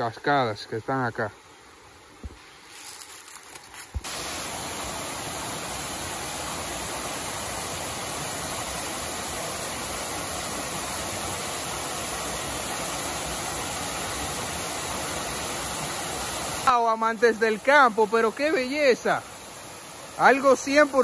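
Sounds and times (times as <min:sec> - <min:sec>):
waterfall rushing: 0:03.9 - 0:21.0.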